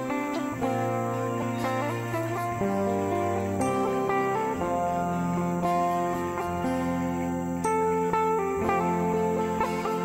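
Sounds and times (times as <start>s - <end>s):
plucked guitar melody: 0.0s - 10.0s.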